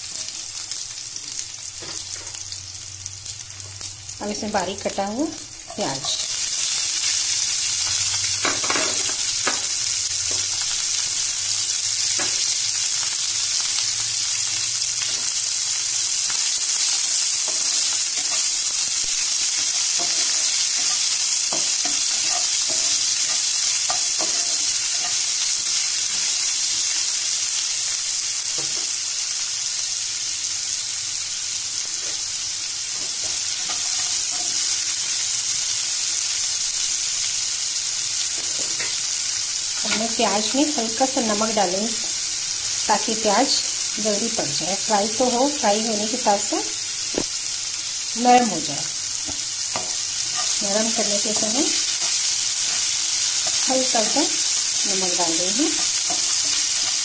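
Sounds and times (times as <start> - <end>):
onions sizzling in oil: 0.0 - 57.0.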